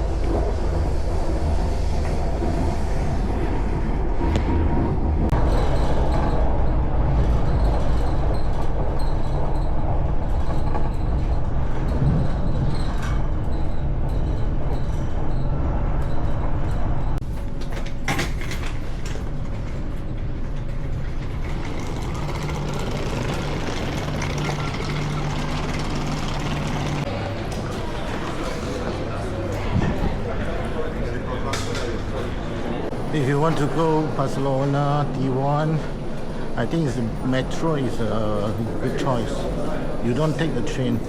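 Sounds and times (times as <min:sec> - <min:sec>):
train rumbling: 0:00.0 - 0:17.6, 0:18.6 - 0:41.0.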